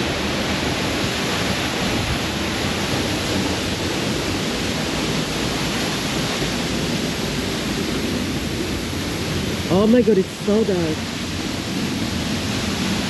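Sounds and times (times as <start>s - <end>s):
heavy rain: 0.0s - 13.0s
waterfall rushing: 0.0s - 13.0s.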